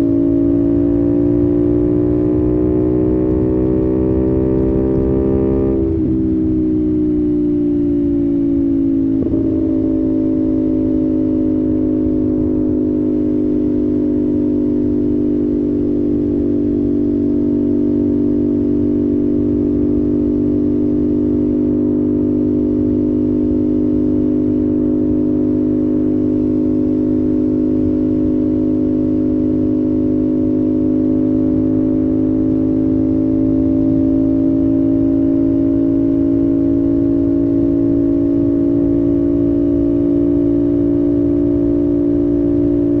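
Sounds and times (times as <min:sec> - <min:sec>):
motorcycle engine at speed: 0:00.0 - 0:43.0.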